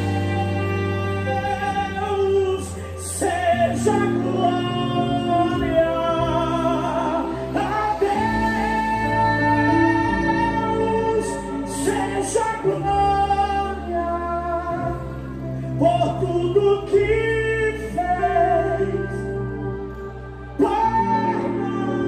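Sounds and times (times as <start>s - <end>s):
gospel band chords and bass: 0.0s - 22.0s
person singing: 0.0s - 22.0s.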